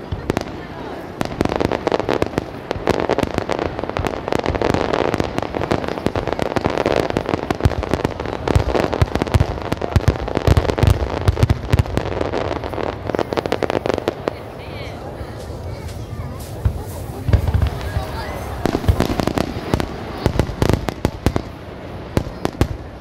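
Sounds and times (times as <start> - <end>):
deep firework booms: 0.0 - 14.4, 16.4 - 23.0
fireworks bangs and crackles: 0.0 - 23.0.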